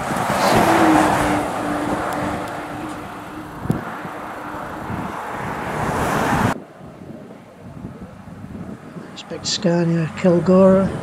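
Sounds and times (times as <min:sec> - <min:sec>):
heavy lorry passing: 0:00.0 - 0:11.0
truck approaching on road: 0:00.0 - 0:11.0.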